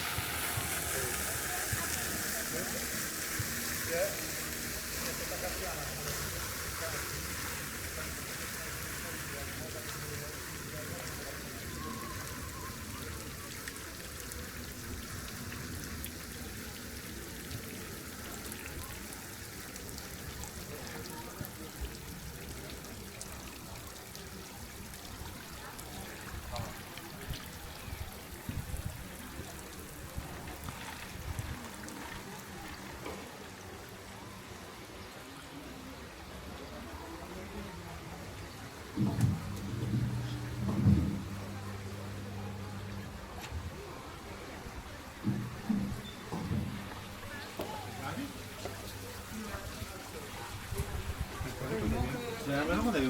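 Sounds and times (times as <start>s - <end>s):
brine trickling and dripping: 0.0s - 53.0s
running water: 0.0s - 53.0s.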